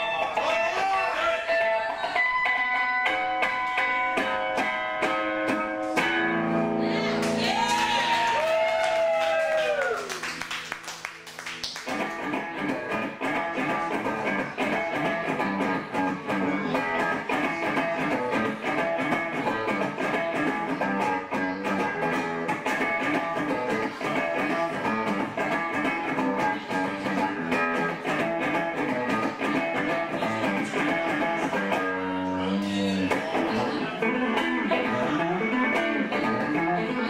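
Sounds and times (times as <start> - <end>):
electric guitar strumming: 0.0 - 8.0, 11.8 - 37.0.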